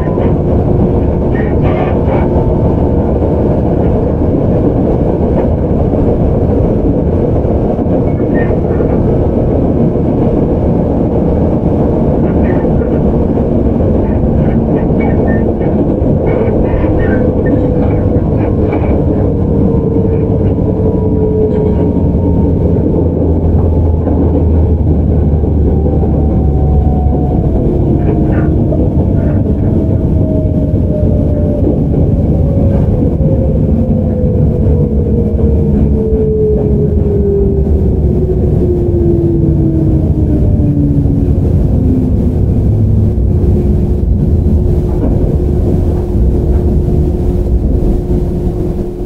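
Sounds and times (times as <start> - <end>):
train running rumble: 0.0 - 49.0.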